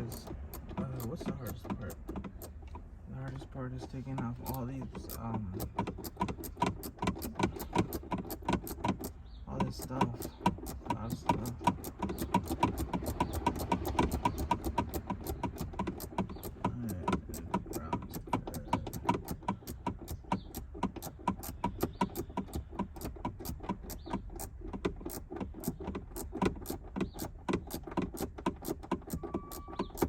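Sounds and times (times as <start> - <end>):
hand ratchet clicking: 0.0 - 2.8, 3.7 - 30.0.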